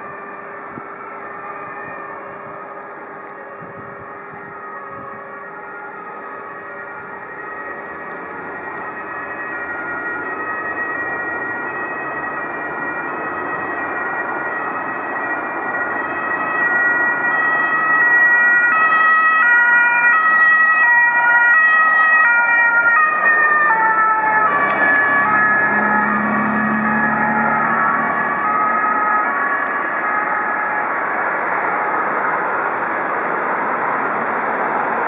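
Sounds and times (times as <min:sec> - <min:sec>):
fire engine two-tone siren: 0:00.0 - 0:35.0.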